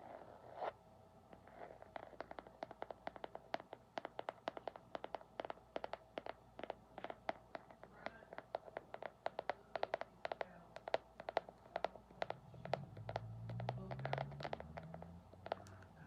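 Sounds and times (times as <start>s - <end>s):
rapid tapping on hard object: 1.8s - 16.0s.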